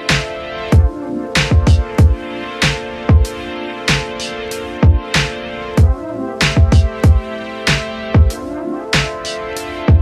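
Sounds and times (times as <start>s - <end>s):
held synth chords: 0.0s - 10.0s.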